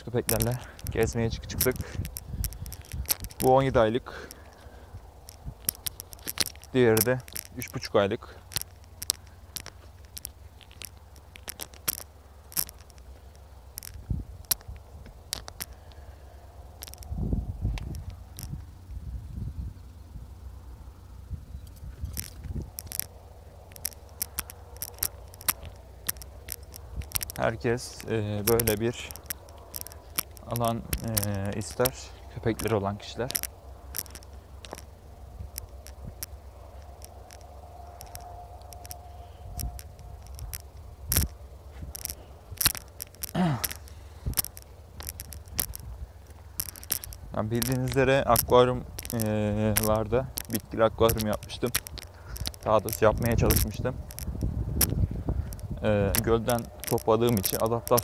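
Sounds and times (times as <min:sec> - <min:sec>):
chain leash jangling: 0:00.0 - 0:14.0, 0:21.6 - 0:58.0
footsteps on stony dirt track: 0:00.0 - 0:16.1, 0:21.7 - 0:58.0
low steady rumble: 0:00.0 - 0:58.0.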